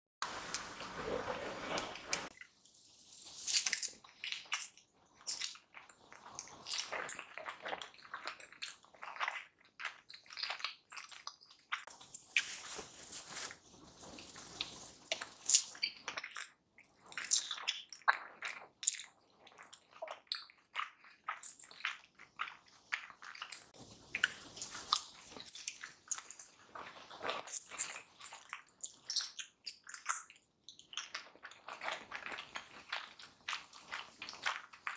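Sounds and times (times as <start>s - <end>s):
close-miked eating and chewing: 3.5s - 34.9s.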